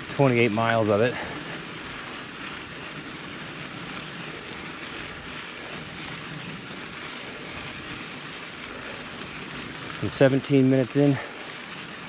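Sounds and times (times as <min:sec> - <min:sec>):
bike tyres rolling on dirt: 0:00.0 - 0:12.0.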